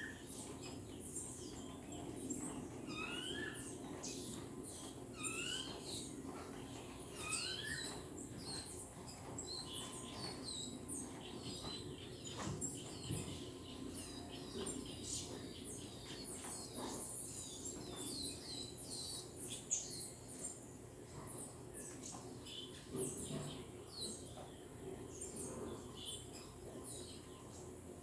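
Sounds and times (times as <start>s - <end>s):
songbirds chirping: 0.0s - 28.0s
steady low hum: 0.0s - 28.0s.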